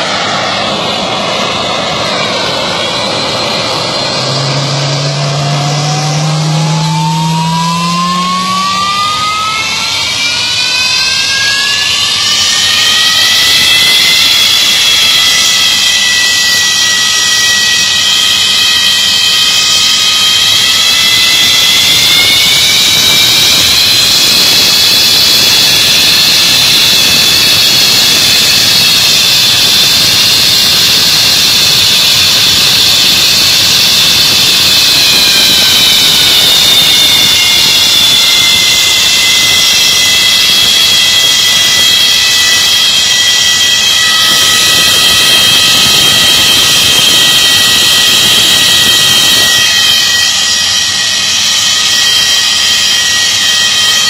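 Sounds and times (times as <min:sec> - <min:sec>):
jet engine high whine: 0:00.0 - 0:54.0.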